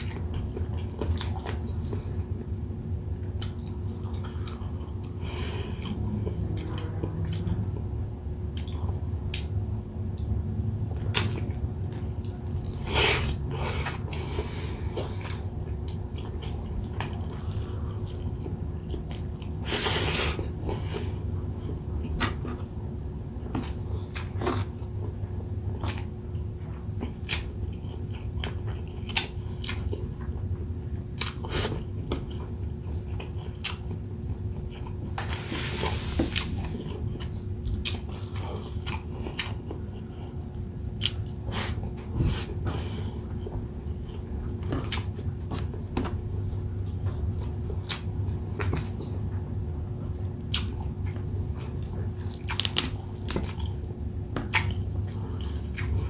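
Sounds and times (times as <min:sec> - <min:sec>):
chewing and biting food: 0:00.0 - 0:56.0
steady low hum: 0:00.0 - 0:56.0.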